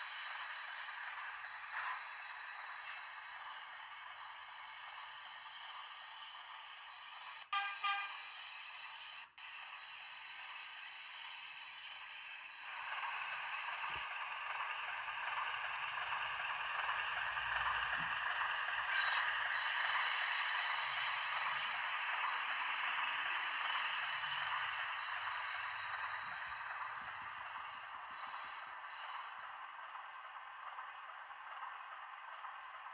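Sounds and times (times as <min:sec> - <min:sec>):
model train diesel engine sound: 0:00.0 - 0:32.9.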